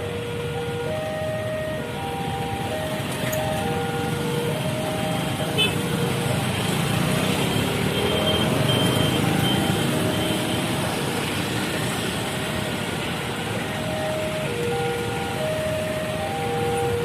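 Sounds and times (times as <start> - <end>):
level crossing warning alarm: 0.0 - 17.0
road traffic engine noise: 0.0 - 17.0.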